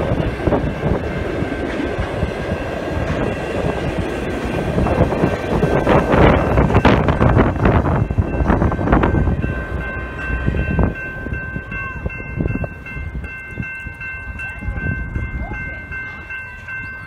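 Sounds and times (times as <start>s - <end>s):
crossing bell ringing: 0.0s - 17.0s
train wheels rumbling on rails: 0.0s - 17.0s.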